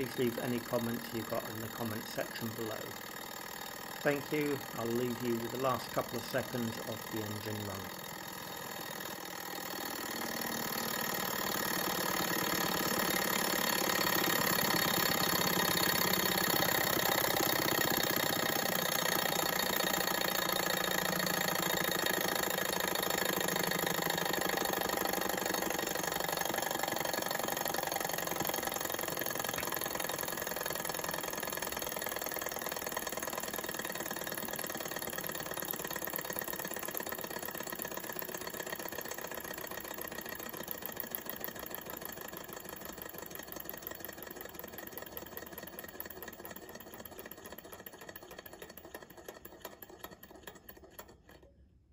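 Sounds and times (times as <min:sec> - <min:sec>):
model engine clattering: 0:00.0 - 0:51.5.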